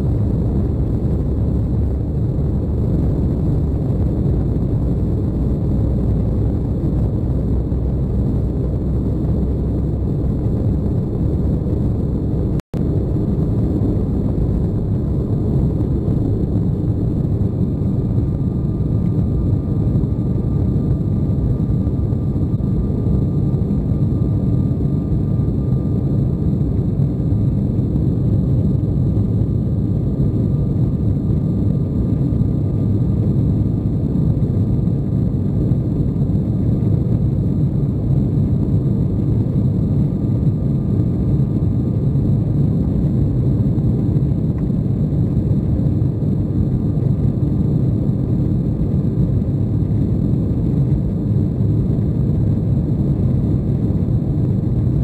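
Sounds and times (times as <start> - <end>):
airflow noise: 0.0 - 55.0
faint steady whine: 0.0 - 55.0
jet engines at high thrust: 0.0 - 55.0.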